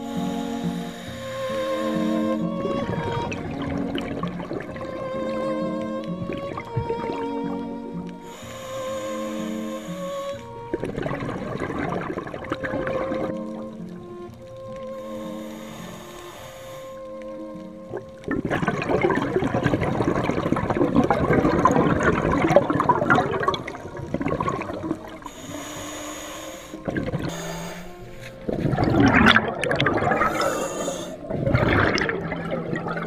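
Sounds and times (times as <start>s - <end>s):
underwater bubbles from regulator: 0.0s - 25.9s, 26.5s - 33.0s.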